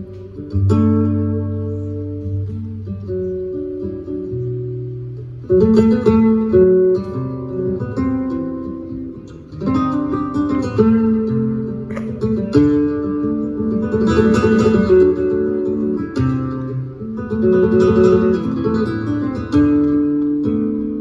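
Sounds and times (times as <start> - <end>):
acoustic guitars playing flamenco: 0.0 - 21.0.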